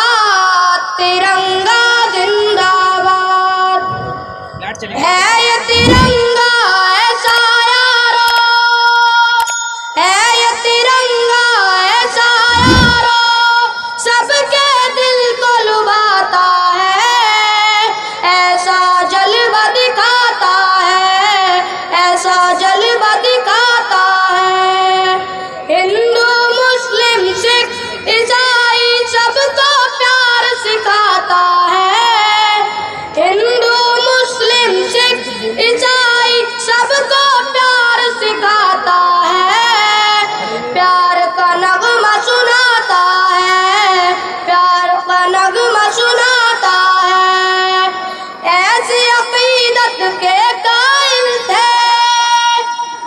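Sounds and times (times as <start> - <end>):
boy singing into a microphone: 0.0 - 4.3, 5.0 - 53.0.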